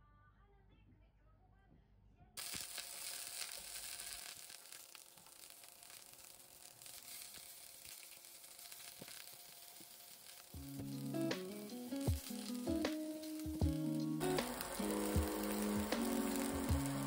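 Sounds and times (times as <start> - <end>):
food sizzling in oil: 2.4 - 17.0.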